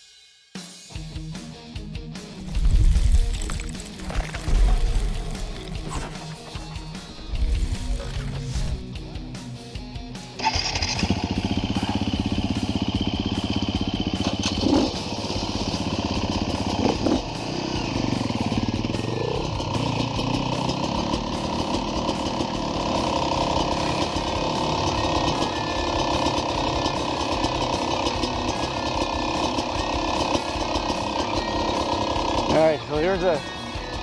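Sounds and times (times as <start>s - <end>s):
dirt bike engine running: 1.1s - 34.0s.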